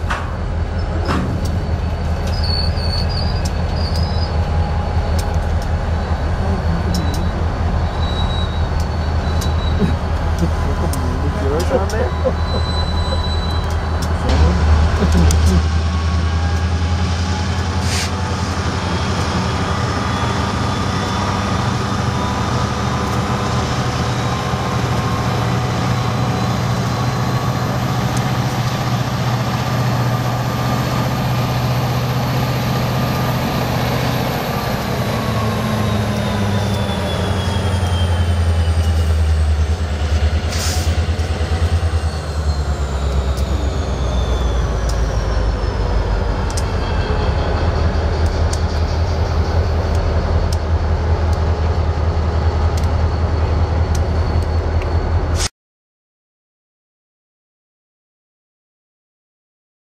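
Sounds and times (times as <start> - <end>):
locomotive diesel engine rumbling: 0.0 - 55.4.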